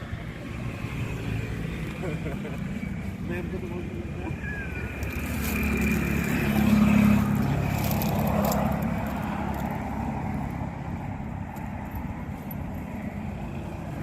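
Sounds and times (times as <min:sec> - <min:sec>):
vehicle engine passing: 0:00.0 - 0:14.0.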